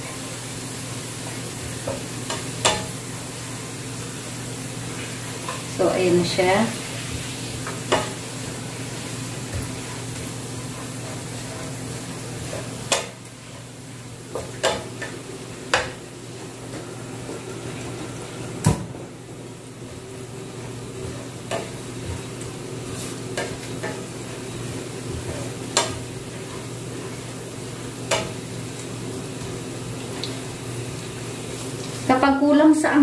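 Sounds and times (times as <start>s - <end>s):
garlic sizzling in oil: 0.0s - 33.0s.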